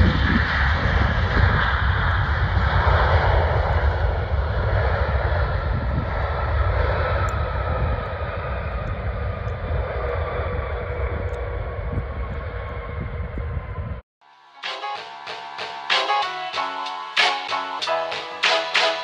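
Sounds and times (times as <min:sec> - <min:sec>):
jet engines roaring: 0:00.0 - 0:14.0, 0:14.6 - 0:19.0
faint jet engine whine: 0:00.0 - 0:19.0.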